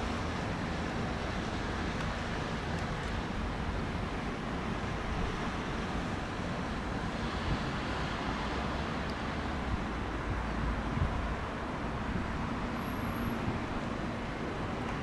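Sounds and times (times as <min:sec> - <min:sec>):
railway station rumble and hiss: 0:00.0 - 0:15.0.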